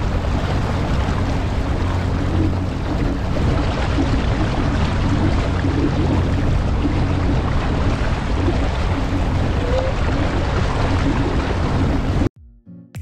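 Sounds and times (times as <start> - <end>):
water washing past hull: 0.0 - 12.3
watercraft engine running: 0.0 - 12.3.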